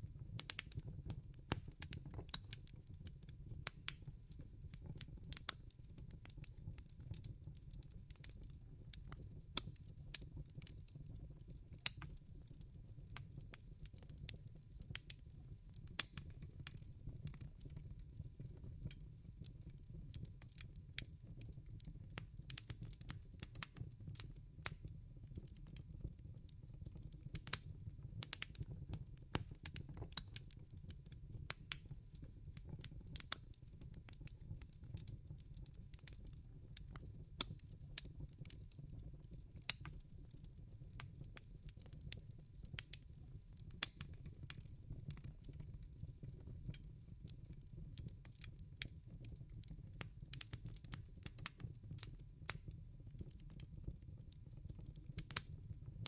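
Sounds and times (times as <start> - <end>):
wood fire crackling: 0.1 - 55.8.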